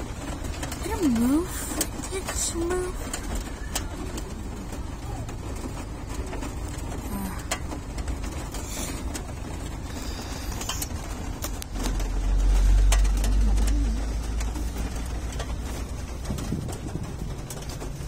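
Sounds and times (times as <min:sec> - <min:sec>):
rain on car roof and windows: 0:00.0 - 0:18.0
tyre and road rumble: 0:00.0 - 0:18.0.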